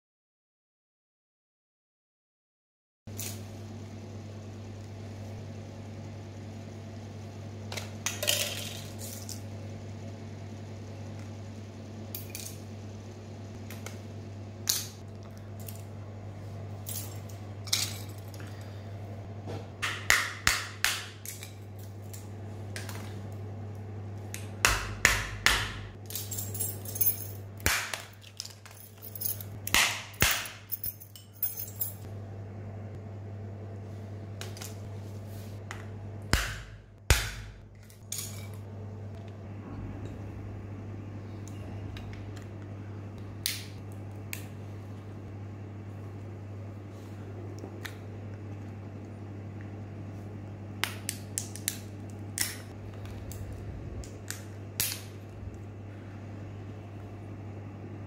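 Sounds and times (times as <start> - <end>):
steady low hum: 3.1 - 58.0.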